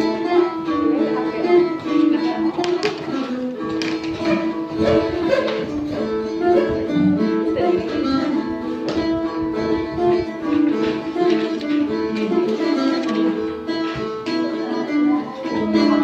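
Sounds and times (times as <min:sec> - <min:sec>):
plucked lute melody: 0:00.0 - 0:16.0.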